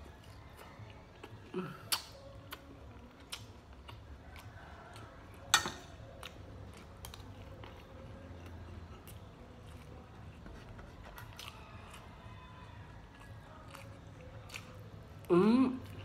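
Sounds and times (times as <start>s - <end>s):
person chewing fried food: 0.0s - 16.0s.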